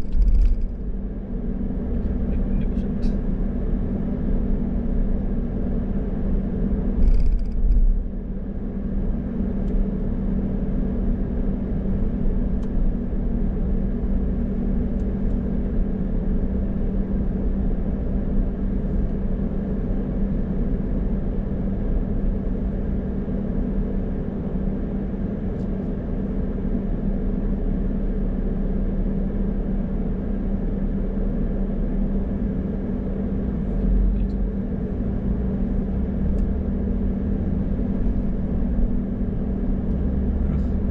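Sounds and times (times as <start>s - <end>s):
car engine and road noise: 0.0s - 27.5s, 32.1s - 40.9s.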